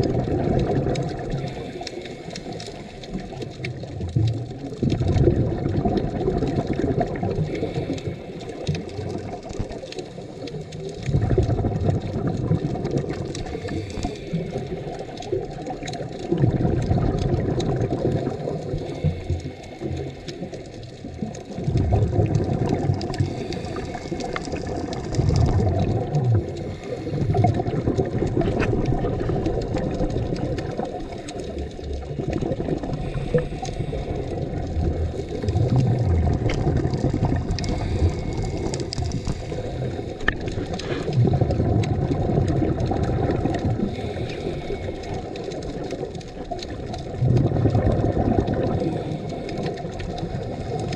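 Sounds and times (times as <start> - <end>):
exhaled bubbles underwater: 0.0 - 50.9
regulator breathing underwater: 0.1 - 3.4, 6.6 - 10.5, 13.3 - 15.7, 18.0 - 21.0, 22.3 - 50.9.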